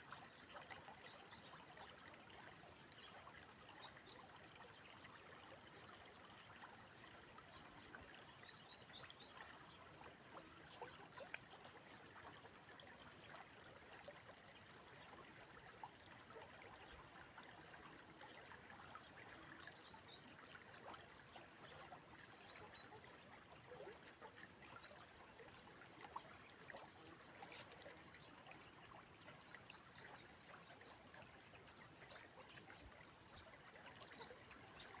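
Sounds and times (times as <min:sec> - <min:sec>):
water trickling and splashing: 0:00.0 - 0:35.0.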